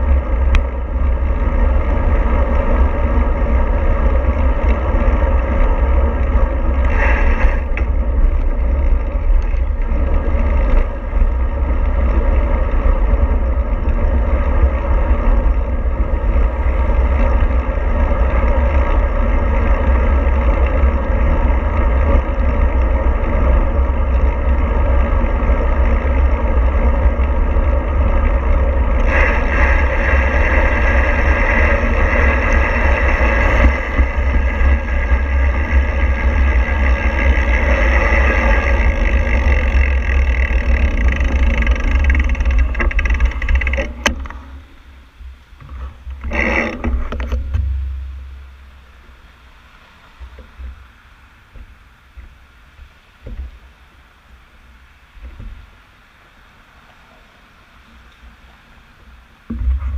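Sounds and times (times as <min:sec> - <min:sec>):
vehicle travel rumble: 0:00.0 - 0:59.9.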